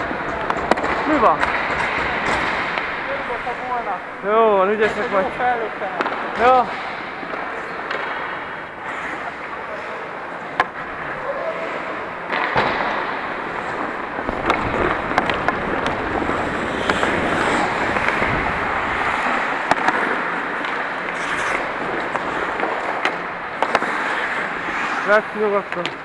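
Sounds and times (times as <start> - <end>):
skate blades scraping ice: 0.0 - 4.1, 4.7 - 26.0
hockey sticks and puck clacking: 0.0 - 26.0.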